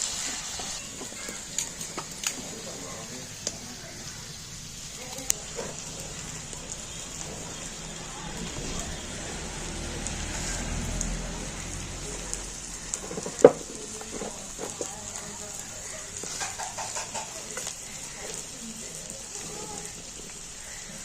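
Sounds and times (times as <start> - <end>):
frying in hot oil: 0.0 - 21.0.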